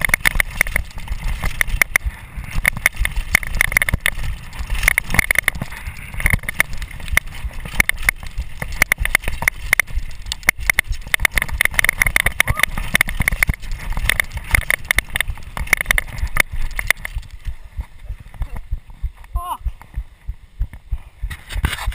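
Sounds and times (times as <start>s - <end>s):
mountain bike rattling over rocks: 0.0s - 20.0s.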